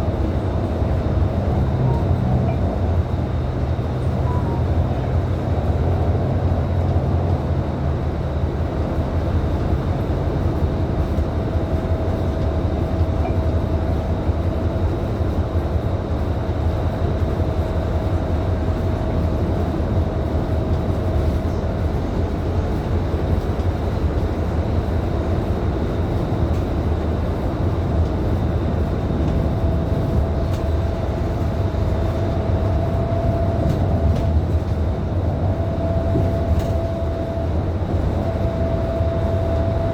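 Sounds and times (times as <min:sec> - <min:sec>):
bus diesel engine droning: 0:00.0 - 0:39.9
road and tyre noise: 0:00.0 - 0:39.9.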